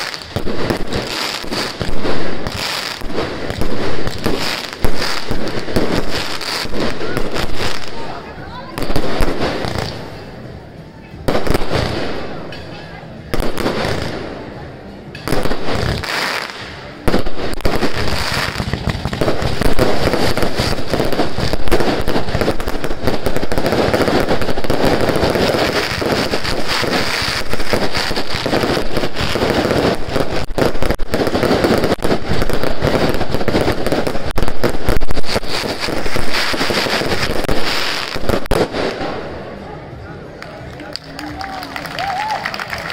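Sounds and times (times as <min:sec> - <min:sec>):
loud firework bursts: 0:00.0 - 0:10.4, 0:11.2 - 0:39.6
fireworks bangs and crackles: 0:00.0 - 0:42.9.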